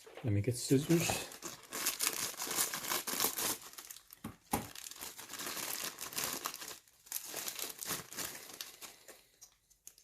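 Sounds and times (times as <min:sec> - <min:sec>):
plastic bag crinkling: 0:00.8 - 0:10.0.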